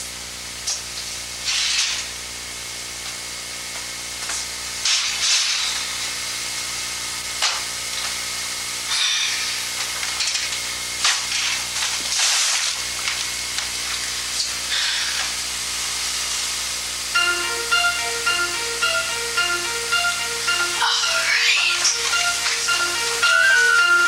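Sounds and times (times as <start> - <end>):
low electrical hum: 0.0 - 24.0
steady hiss: 0.5 - 24.0.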